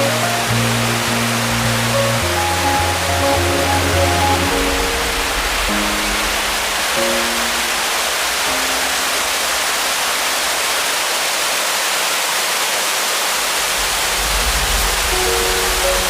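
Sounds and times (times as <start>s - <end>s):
rushing stream water: 0.0s - 16.0s.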